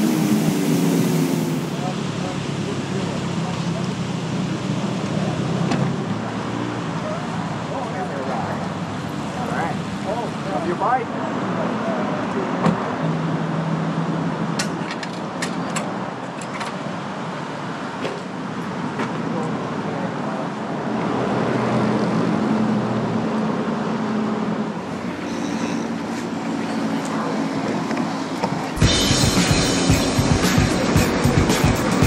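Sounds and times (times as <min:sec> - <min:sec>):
road noise with engine hum: 0:00.0 - 0:32.0.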